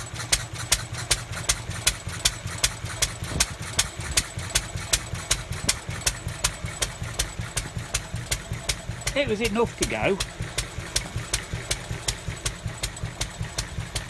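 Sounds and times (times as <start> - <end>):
stationary engine exhaust beating: 0.0 - 14.0.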